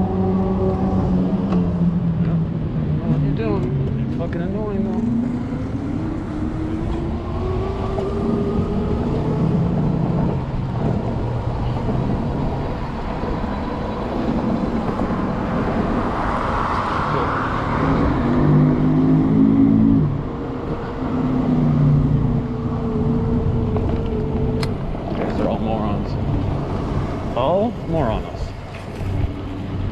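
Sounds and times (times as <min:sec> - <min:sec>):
steady rushing noise: 0:00.0 - 0:29.9
traffic vehicle tones: 0:00.0 - 0:29.9.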